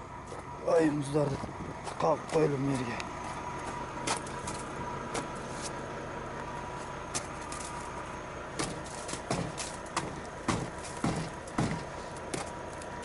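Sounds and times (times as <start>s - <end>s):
thin constant whine: 0.0s - 13.0s
truck engine running: 0.0s - 13.0s.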